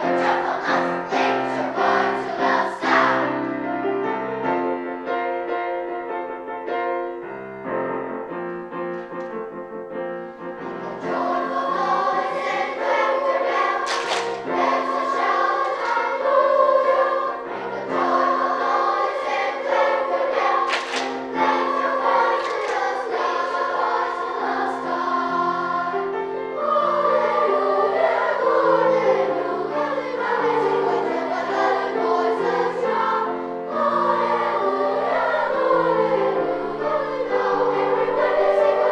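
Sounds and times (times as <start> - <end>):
children's choir singing: 0.0 - 8.3, 10.2 - 38.9
piano accompaniment: 0.0 - 38.9.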